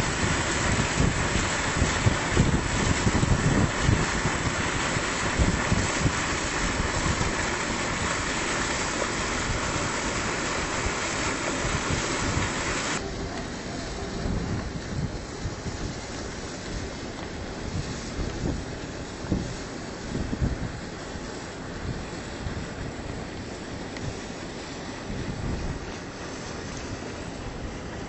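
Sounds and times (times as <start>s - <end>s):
slurry gushing from a pipe: 0.0s - 28.0s.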